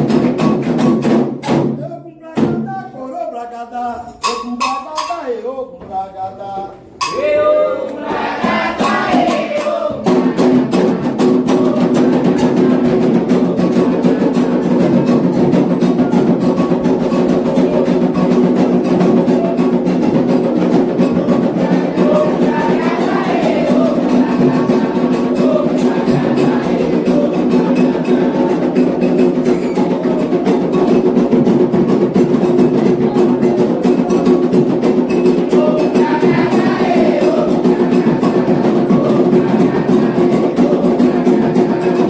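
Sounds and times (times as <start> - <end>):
drums and percussion: 0.0 - 42.0
chorus of voices singing: 7.0 - 42.0.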